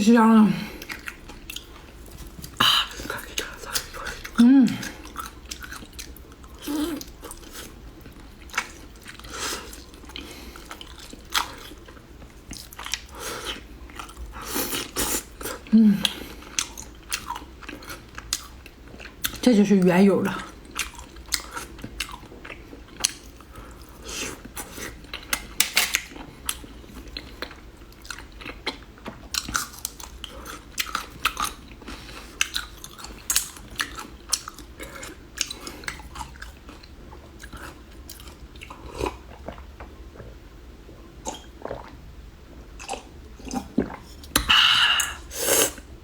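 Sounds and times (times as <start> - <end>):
person chewing crunchy food: 0.7 - 19.4, 20.4 - 42.0, 42.7 - 45.9.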